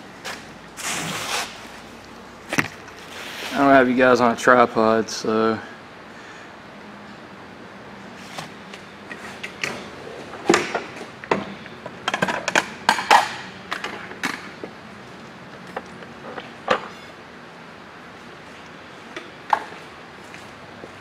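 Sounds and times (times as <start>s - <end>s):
low shop hum: 0.0s - 21.0s.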